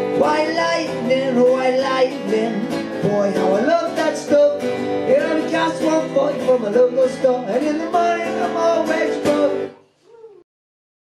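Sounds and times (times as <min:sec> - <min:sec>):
man singing: 0:00.0 - 0:09.8
strummed acoustic guitar: 0:00.0 - 0:09.8.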